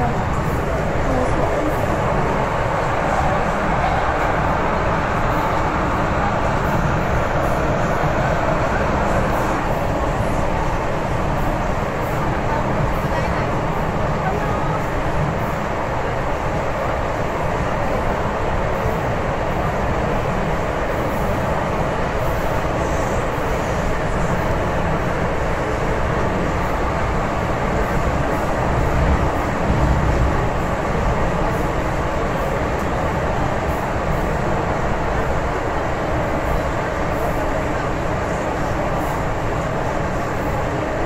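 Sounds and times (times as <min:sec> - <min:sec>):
train rumbling through tunnel: 0:00.0 - 0:41.0.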